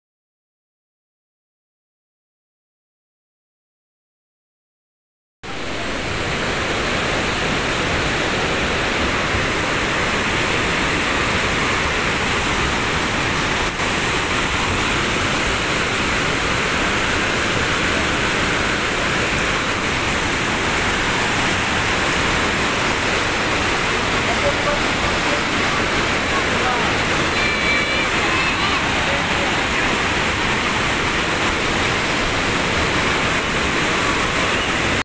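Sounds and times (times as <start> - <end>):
floodwater rushing: 5.5 - 35.0.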